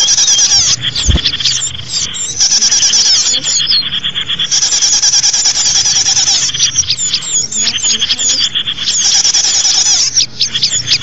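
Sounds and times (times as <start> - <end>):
songbirds trilling and chirping: 0.0 - 11.0.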